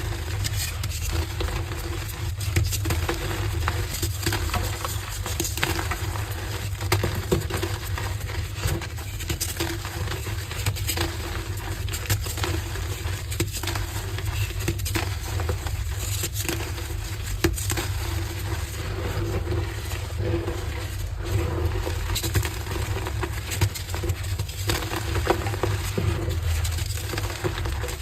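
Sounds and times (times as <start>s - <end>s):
chalk crumbling and crunching: 0.0s - 28.0s.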